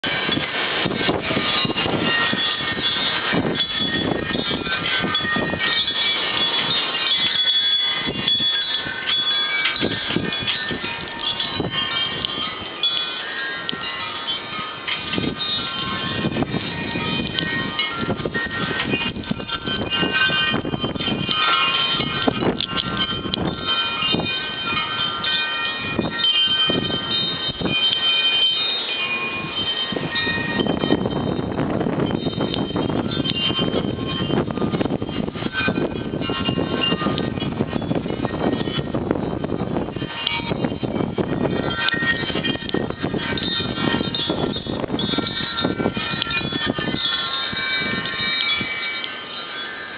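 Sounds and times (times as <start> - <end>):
strong gusty wind: 0.0 - 49.9
wind chimes ringing: 0.0 - 49.9.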